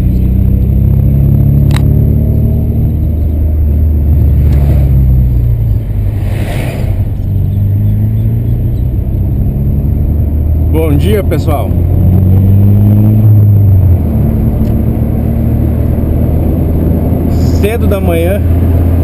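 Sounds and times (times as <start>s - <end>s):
car engine exhaust rumble: 0.0s - 19.0s.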